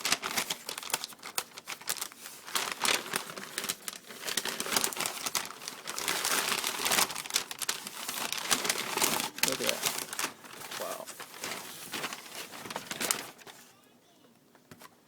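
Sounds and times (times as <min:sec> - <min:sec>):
package wrapping rustling and tearing: 0:00.0 - 0:13.7.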